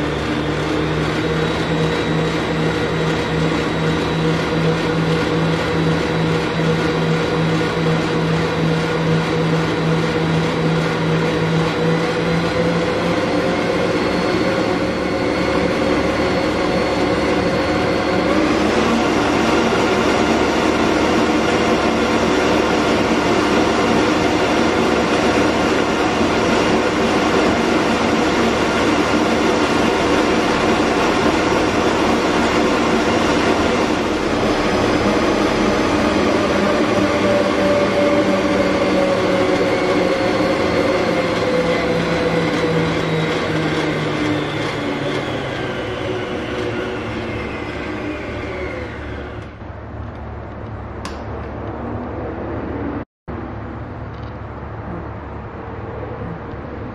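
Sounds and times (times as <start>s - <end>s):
stand mixer whisking: 0.0s - 49.5s.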